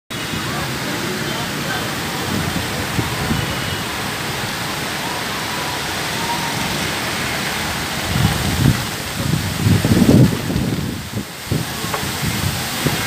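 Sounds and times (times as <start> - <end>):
heavy rain: 0.1 - 13.0
wind buffeting microphone: 1.8 - 13.0.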